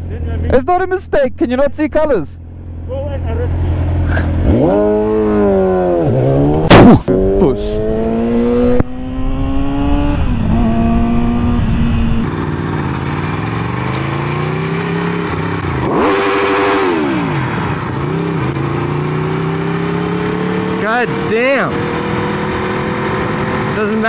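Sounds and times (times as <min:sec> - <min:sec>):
motorcycle engine revving: 0:02.4 - 0:24.0.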